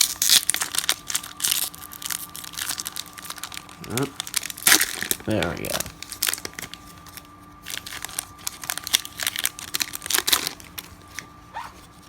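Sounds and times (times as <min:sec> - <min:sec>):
card pack wrapper crinkling: 0:00.0 - 0:12.0
cards rustling: 0:00.0 - 0:12.0.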